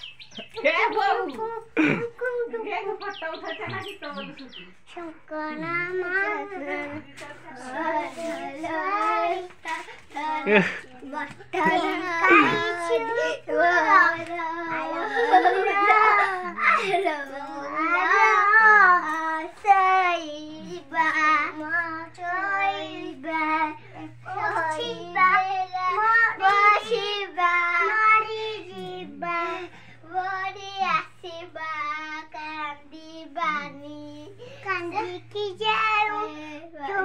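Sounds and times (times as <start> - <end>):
children's sing-song voices: 0.0 - 37.0.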